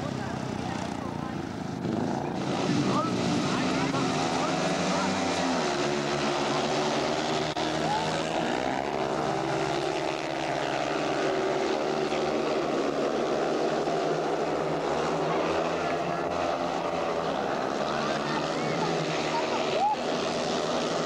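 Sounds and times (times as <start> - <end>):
motorcycle engines racing: 0.0 - 21.0.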